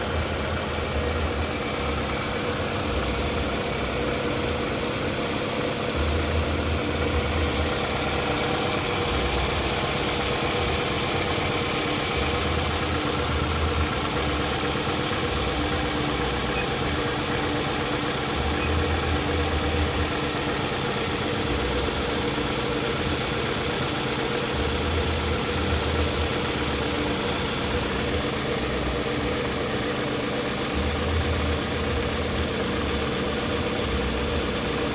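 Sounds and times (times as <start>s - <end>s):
misfiring car engine idling: 0.0s - 34.9s.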